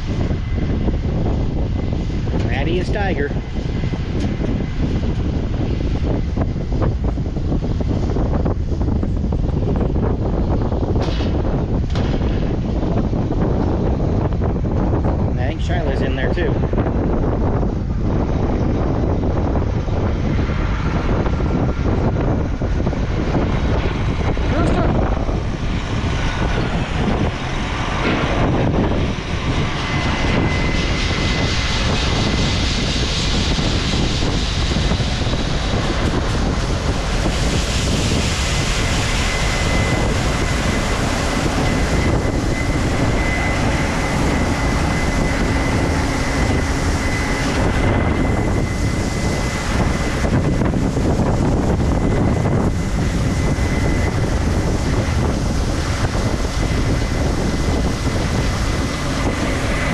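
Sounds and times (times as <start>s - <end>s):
thin steady whine: 0.0s - 59.9s
truck engine and road noise: 11.8s - 59.9s.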